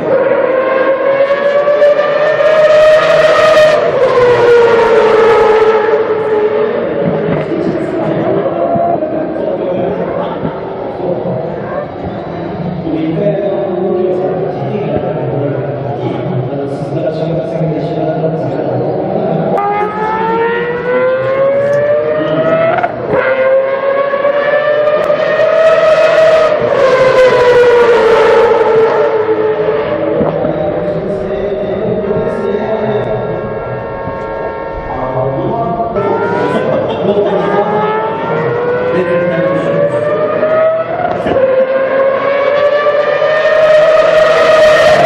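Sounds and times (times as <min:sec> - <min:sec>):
race car engine at high revs: 0:00.0 - 0:45.0.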